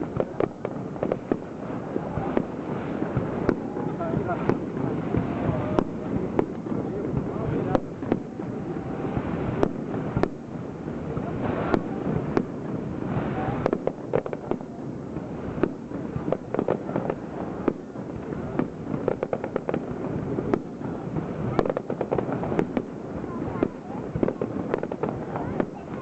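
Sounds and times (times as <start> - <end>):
fireworks bursting: 0.0 - 26.0
fireworks crackle: 0.0 - 26.0.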